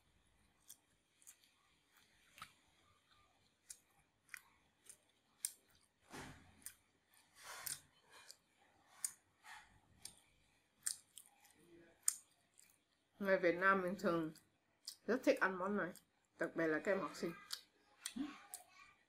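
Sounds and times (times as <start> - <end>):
close-up chewing: 0.0 - 13.2, 14.0 - 16.4, 17.3 - 19.0.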